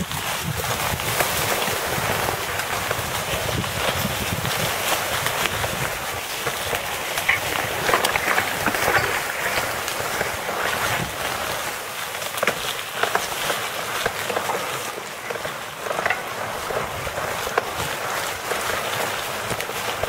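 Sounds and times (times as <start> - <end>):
grass swishing against bike: 0.0 - 20.0
bike clicks and knocks: 1.0 - 11.1, 12.2 - 20.0.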